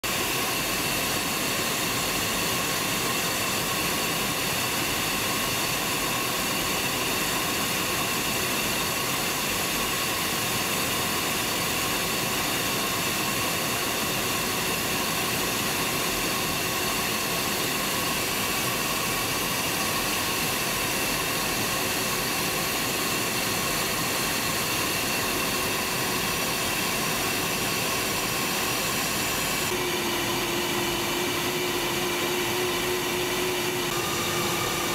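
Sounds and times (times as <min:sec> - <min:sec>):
jet cockpit engine and airflow rush: 0:00.0 - 0:34.9.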